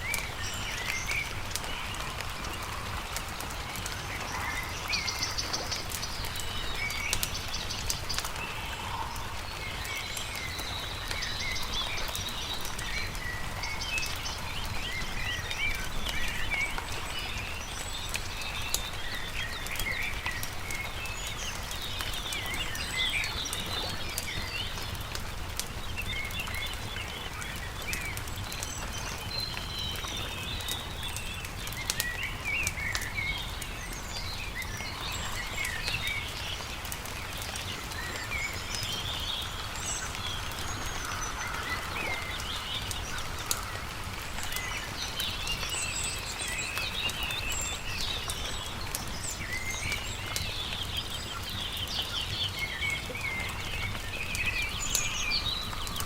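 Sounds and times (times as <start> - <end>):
campfire crackling: 0.0 - 56.0
small birds chirping: 0.0 - 56.0.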